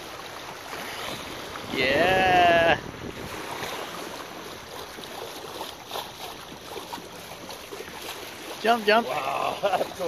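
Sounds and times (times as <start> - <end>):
water sloshing against boat: 0.0 - 10.0.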